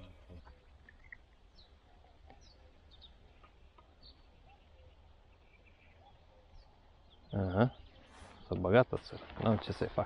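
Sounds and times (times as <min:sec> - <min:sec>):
faint bird chirps: 0:00.0 - 0:09.9.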